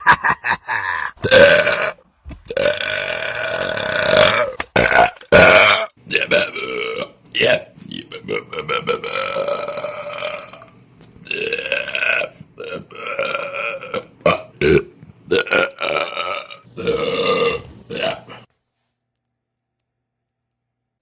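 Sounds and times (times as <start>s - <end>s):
man belching: 0.7s - 18.5s.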